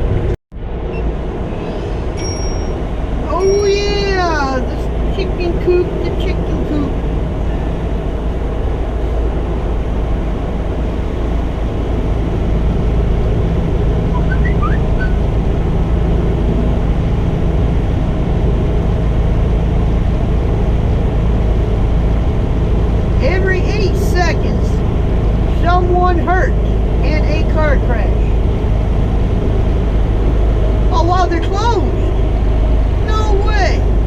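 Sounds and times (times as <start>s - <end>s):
road noise: 0.0s - 34.0s
truck engine drone: 0.0s - 34.0s.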